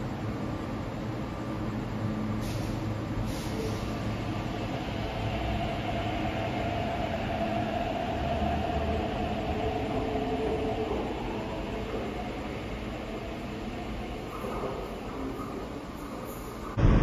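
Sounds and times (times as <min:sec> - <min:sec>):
wheel-on-rail rumble: 0:00.0 - 0:16.8.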